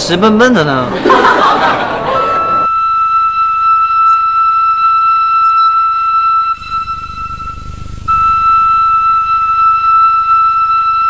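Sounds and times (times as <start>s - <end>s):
high flute-like note: 2.1s - 11.0s.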